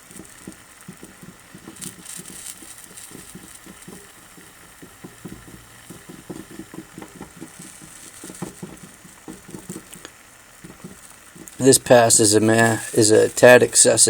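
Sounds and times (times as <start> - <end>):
faint steady hiss: 0.0 - 14.0
solder sizzling and crackling: 0.0 - 14.0.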